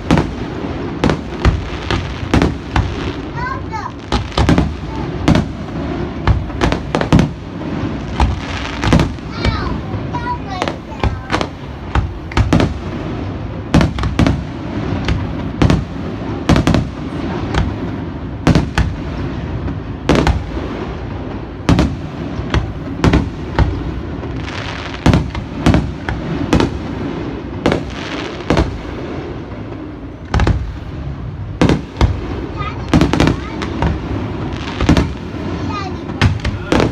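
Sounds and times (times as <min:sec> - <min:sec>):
firework shells bursting: 0:00.0 - 0:29.0, 0:29.6 - 0:36.9
firework crackle: 0:00.0 - 0:36.9
rumble and echo: 0:00.0 - 0:36.9.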